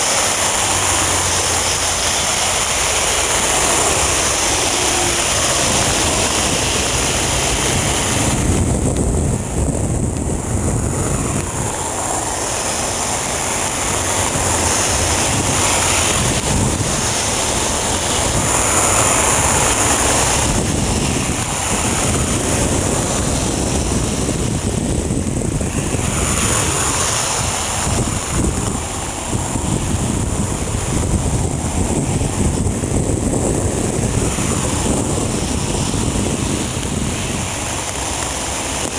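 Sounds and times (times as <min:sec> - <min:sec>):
gusty wind on microphone: 0:00.0 - 0:38.9
jet engines running: 0:00.0 - 0:38.9
rushing hiss of spray: 0:00.0 - 0:38.9.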